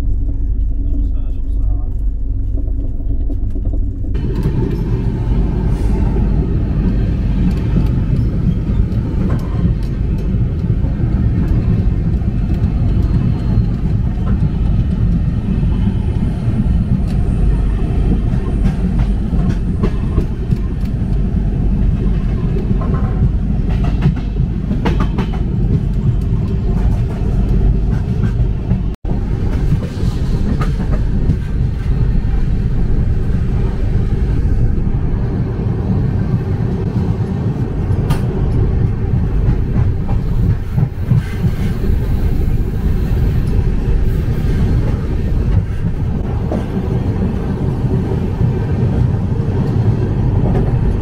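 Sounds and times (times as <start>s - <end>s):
train coach rumbling: 0.0s - 51.0s.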